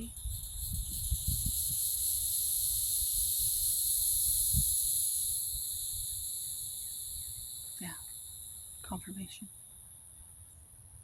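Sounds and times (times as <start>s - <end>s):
insects buzzing drone: 0.0s - 11.0s.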